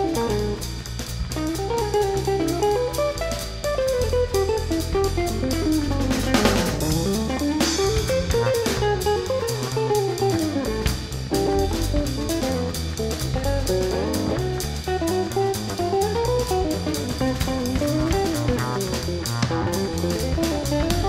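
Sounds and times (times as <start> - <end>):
instrumental guitar band music: 0.0 - 21.0.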